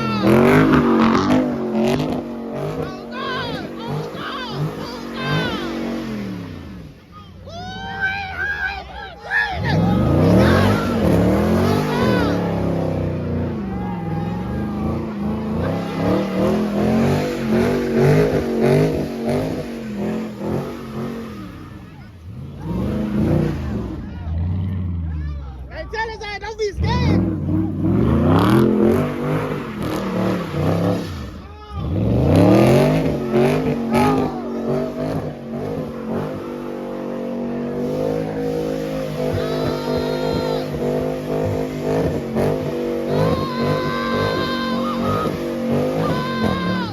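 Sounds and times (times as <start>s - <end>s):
car engine revving hard: 0.0s - 25.4s, 26.8s - 46.9s.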